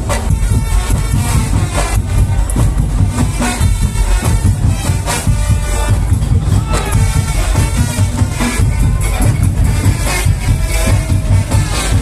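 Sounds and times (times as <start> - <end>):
driving percussion beat: 0.0 - 12.0
loud music with heavy bass: 0.0 - 12.0.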